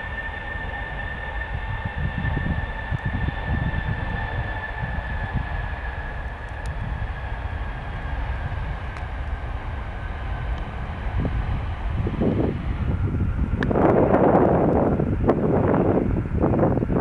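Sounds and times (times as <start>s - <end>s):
airliner engines whining: 0.0s - 17.0s
low gusty rumble: 0.0s - 17.0s
wind buffeting microphone: 0.0s - 17.0s.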